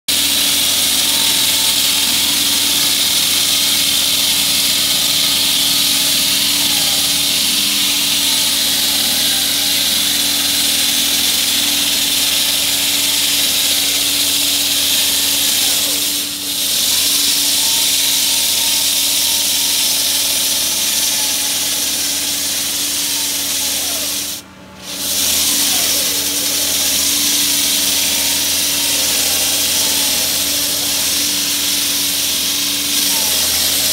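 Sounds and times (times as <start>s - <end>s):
mechanical hum: 0.1s - 33.9s
saw blade grinding concrete: 0.1s - 33.9s.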